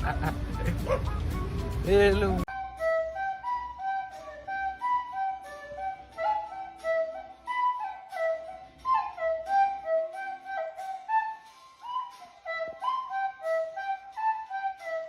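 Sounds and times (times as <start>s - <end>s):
bouncy flute melody: 0.0s - 15.0s.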